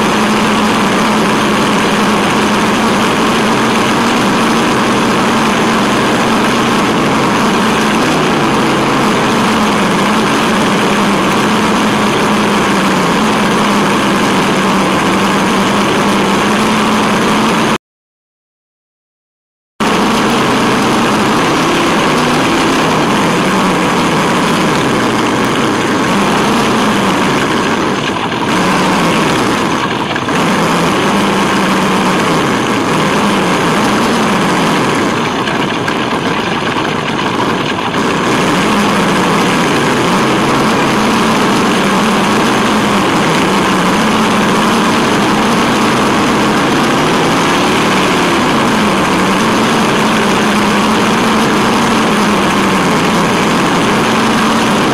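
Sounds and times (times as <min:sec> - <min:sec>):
electric motor and gears whining: 0:00.0 - 0:17.8, 0:19.8 - 0:54.9.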